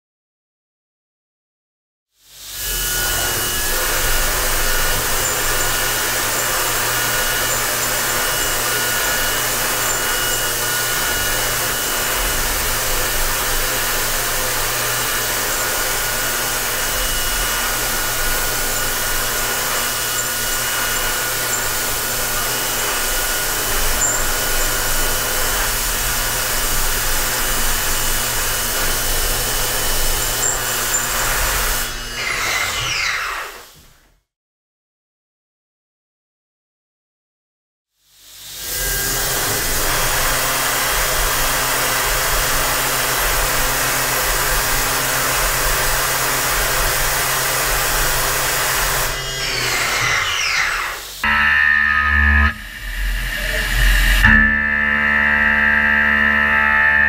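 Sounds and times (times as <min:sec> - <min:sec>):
high spindle whine: 0:02.4 - 0:33.6, 0:38.6 - 0:57.0.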